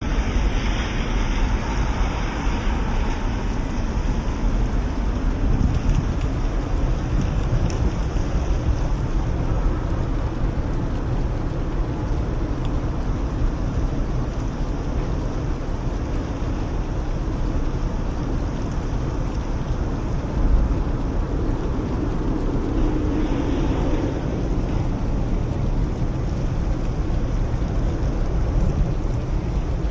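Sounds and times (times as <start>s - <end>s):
strong wind rushing: 0.0s - 29.9s
wind buffeting microphone: 0.0s - 29.9s.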